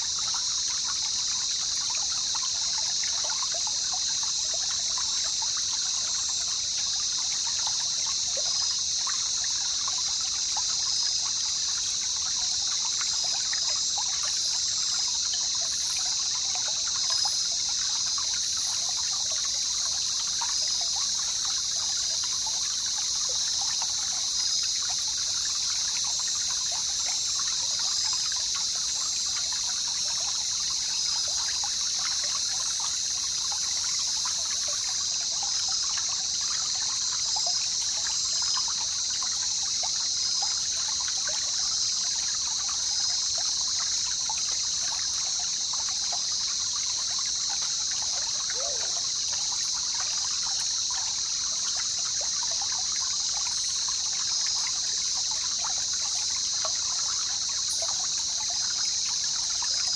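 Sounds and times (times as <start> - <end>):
river water trickling: 0.0 - 59.9.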